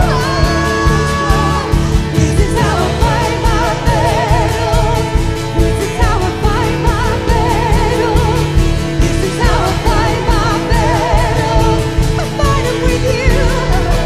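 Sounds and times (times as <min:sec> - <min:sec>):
woman singing with vibrato: 0:00.0 - 0:14.0
worship band playing: 0:00.0 - 0:14.0.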